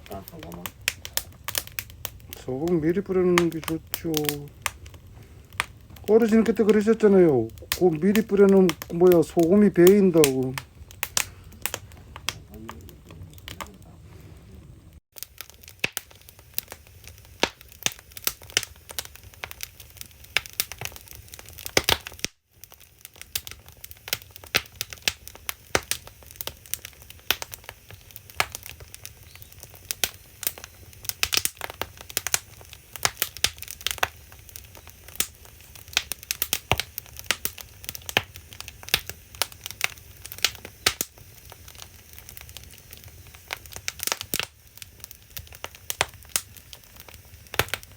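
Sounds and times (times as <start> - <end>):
fire low rumble: 0.0 - 47.9
firewood crackling and popping: 0.0 - 47.9.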